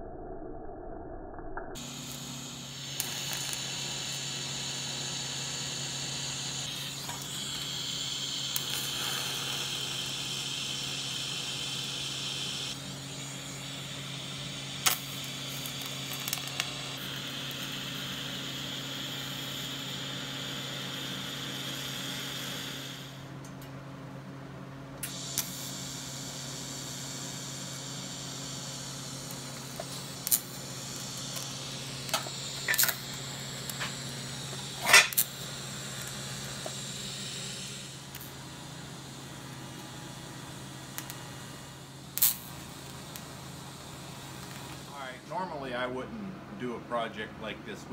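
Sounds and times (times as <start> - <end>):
welding arc hissing: 1.8 - 23.4, 25.0 - 45.9
low electrical hum: 1.8 - 47.9.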